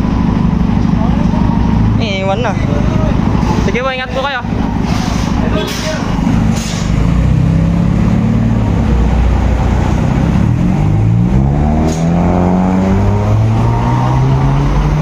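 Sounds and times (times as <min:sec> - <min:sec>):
car exhaust accelerating: 0:00.0 - 0:15.0.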